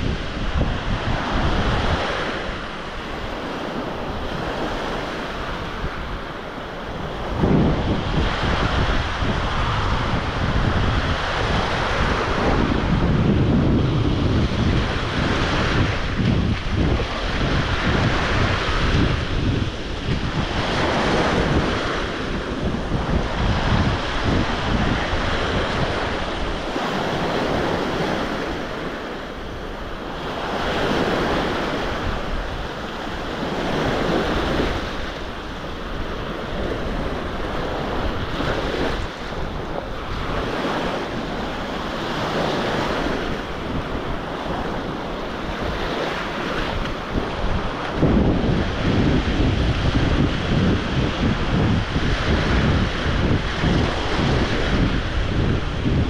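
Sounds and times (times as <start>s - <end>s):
surf washing onto beach: 0.0s - 56.0s
wind buffeting microphone: 0.0s - 56.0s.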